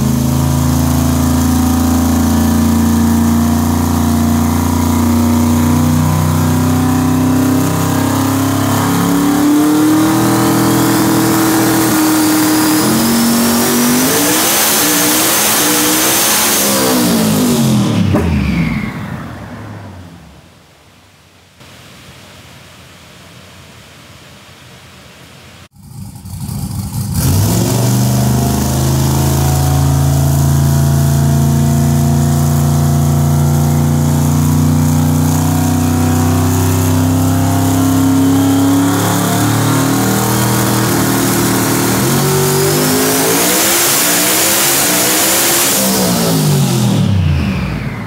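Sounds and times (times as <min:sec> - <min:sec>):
vee eight engine revving on dyno: 0:00.0 - 0:19.2, 0:27.0 - 0:48.0.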